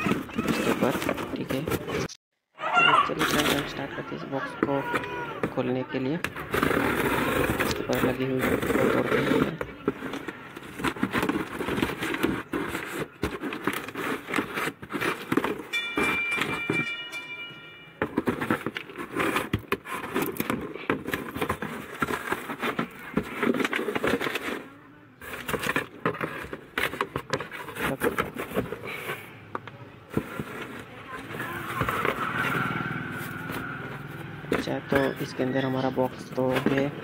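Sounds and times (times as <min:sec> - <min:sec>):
cardboard crackling and scraping: 0:00.0 - 0:02.1, 0:03.1 - 0:37.0.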